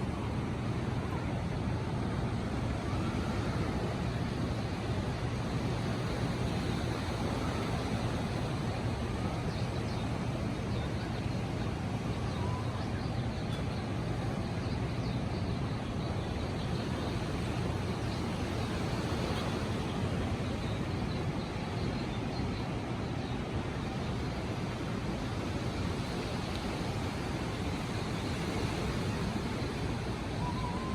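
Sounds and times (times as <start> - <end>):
ocean surf on beach: 0.0 - 30.9.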